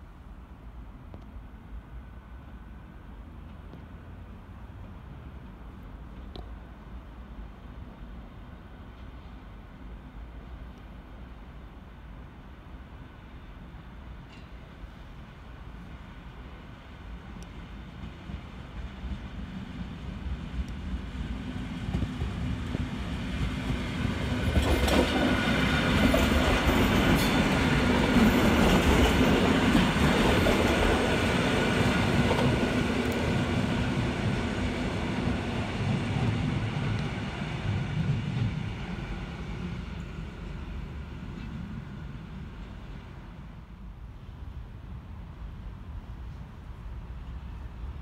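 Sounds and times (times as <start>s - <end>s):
electric train passing on rails: 0.0s - 48.0s.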